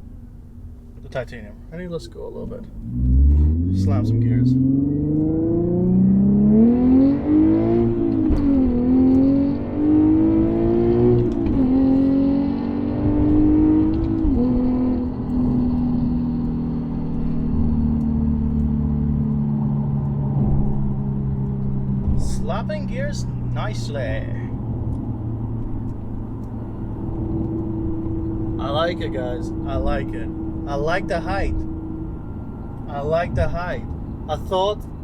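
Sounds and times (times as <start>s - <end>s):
car engine accelerating through gears: 2.6s - 35.0s.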